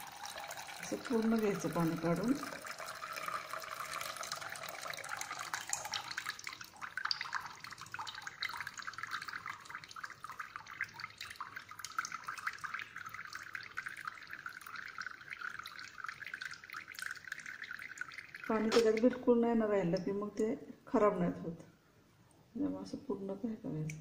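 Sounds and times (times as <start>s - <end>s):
water pouring into steel bowl: 0.0s - 19.4s
water dripping: 0.0s - 20.6s.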